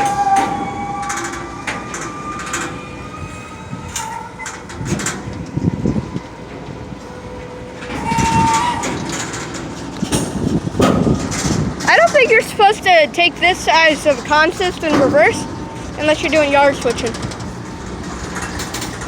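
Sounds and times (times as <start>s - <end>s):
freight train rumbling: 0.0s - 19.0s
wheels squealing: 0.0s - 19.0s.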